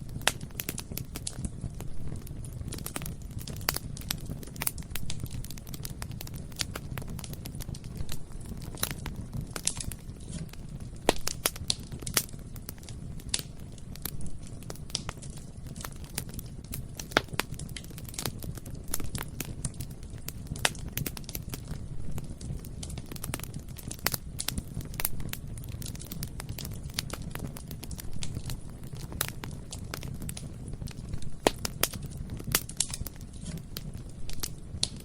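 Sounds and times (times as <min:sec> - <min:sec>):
fire crackling and popping: 0:00.0 - 0:35.0
low rumble of flames: 0:00.0 - 0:35.0.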